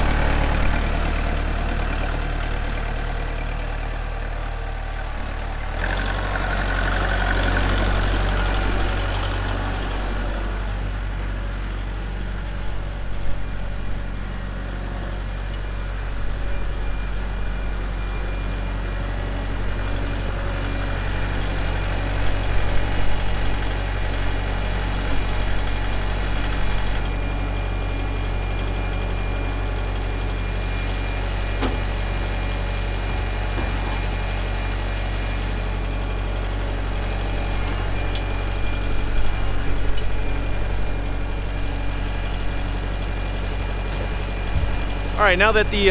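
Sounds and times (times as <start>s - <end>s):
tractor diesel engine idling: 0.0s - 45.9s.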